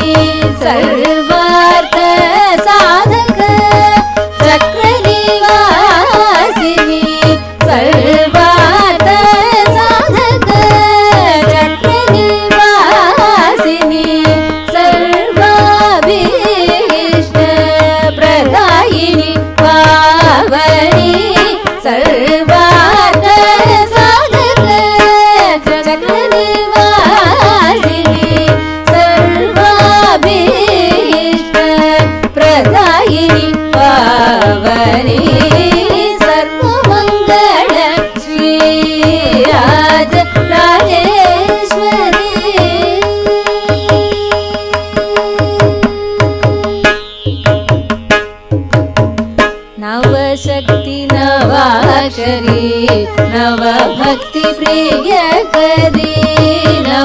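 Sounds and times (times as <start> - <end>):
women singing: 0.0 - 46.9, 49.8 - 57.0
mridangam drum strokes: 0.0 - 57.0
violin accompaniment: 0.0 - 57.0.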